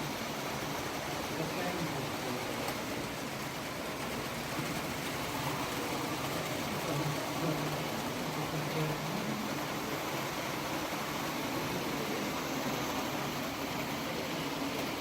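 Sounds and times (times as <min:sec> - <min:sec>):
model train whirring: 0:00.0 - 0:15.0
murmur of hall noise: 0:00.0 - 0:15.0.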